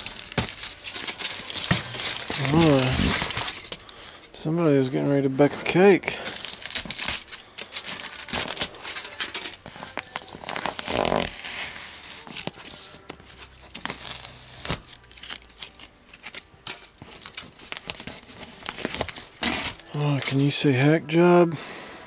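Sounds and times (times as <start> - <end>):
aluminum foil crinkling: 0.0 - 20.6.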